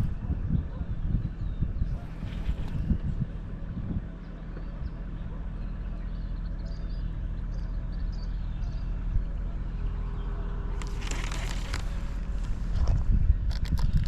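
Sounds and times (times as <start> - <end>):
birds chirping: 0.0 - 14.0
low engine hum: 0.0 - 14.0.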